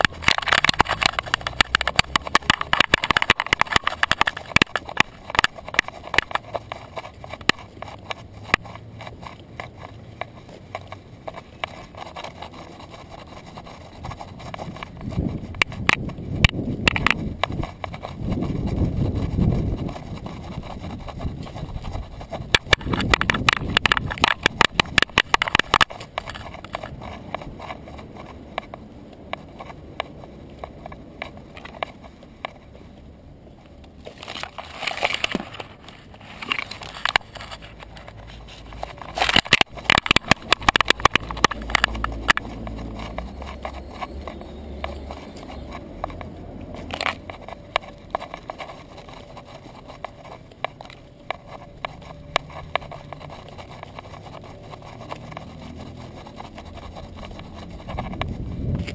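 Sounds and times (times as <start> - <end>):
dog claws clicking on concrete: 0.0 - 58.9.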